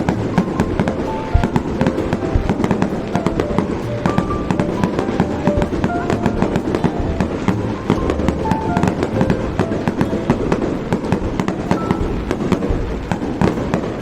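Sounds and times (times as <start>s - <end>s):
fireworks bangs and crackling pops: 0.0s - 14.0s
low rumble: 0.0s - 14.0s.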